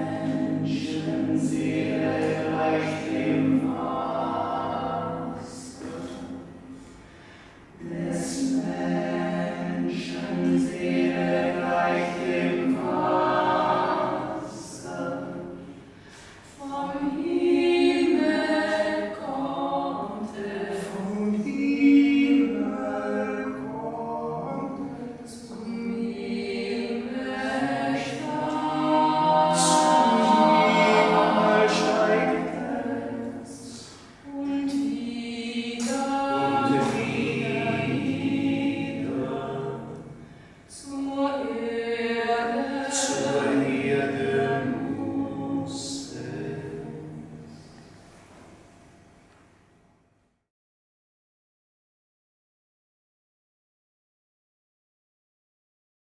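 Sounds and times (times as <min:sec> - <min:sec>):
group of voices singing: 0:00.0 - 0:48.0.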